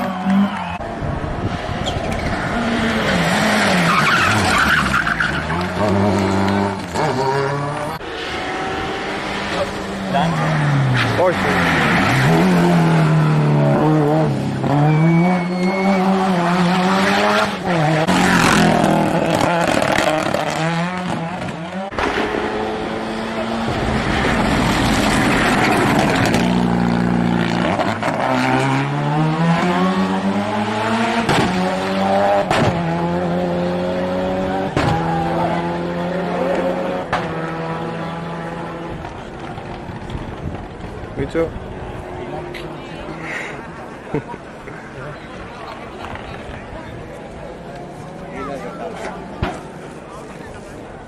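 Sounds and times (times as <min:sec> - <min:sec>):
race car engines revving: 0:00.0 - 0:51.0.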